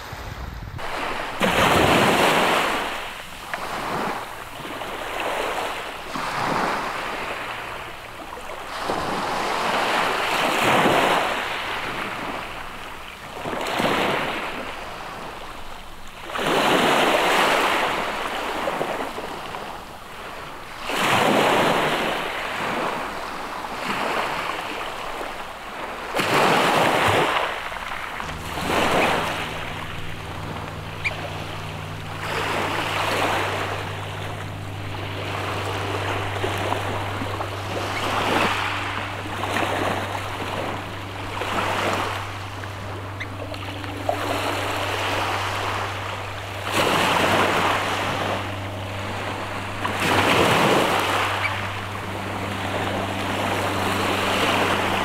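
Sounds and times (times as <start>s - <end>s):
low steady hum: 0.0s - 55.0s
sea waves on rocky shore: 0.0s - 55.0s.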